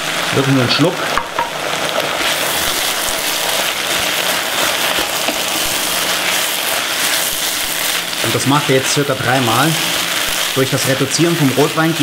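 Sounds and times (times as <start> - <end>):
meat and vegetables sizzling: 0.0 - 12.0
wine boiling off: 0.0 - 12.0
wooden spoon stirring: 1.4 - 11.8.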